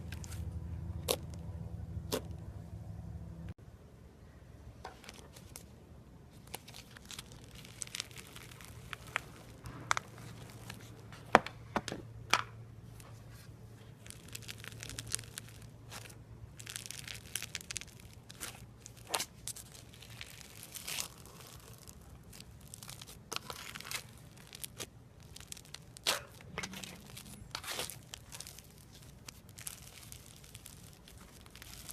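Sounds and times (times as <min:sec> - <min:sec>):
crunchy slime crackling: 0:01.0 - 0:02.4, 0:06.3 - 0:11.6, 0:12.9 - 0:31.9.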